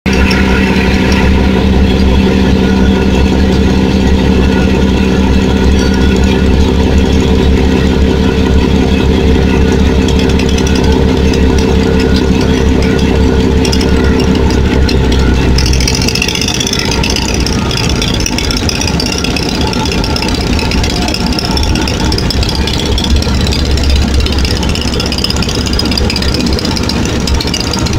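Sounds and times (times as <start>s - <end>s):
boat engine humming: 0.0s - 27.9s.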